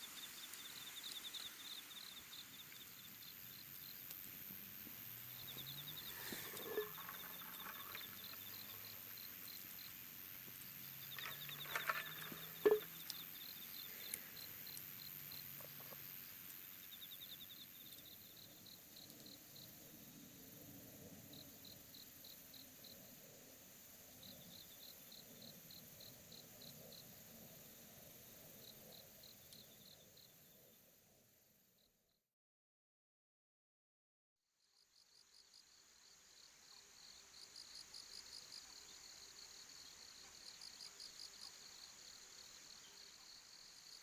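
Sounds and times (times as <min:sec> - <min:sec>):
crickets chirping: 0:00.0 - 0:32.2, 0:34.6 - 0:44.0.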